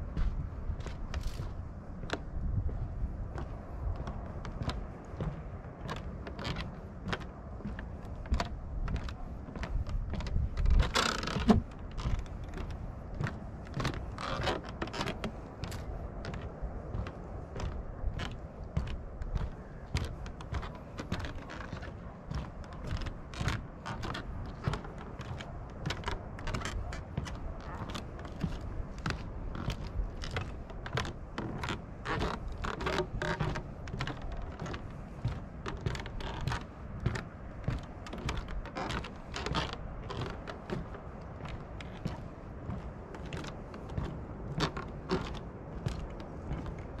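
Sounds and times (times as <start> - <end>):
footsteps on wooden boardwalk: 0.0 - 47.0.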